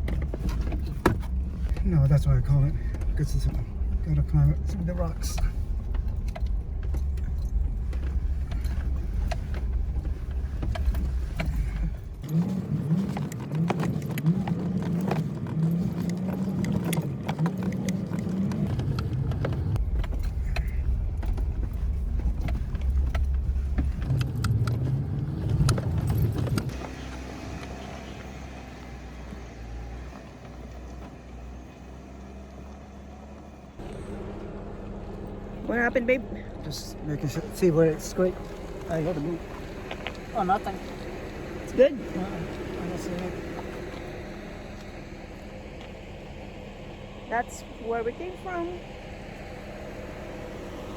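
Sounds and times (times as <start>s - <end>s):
body and suspension clunking: 0.0s - 50.9s
engine running under load: 0.0s - 50.9s.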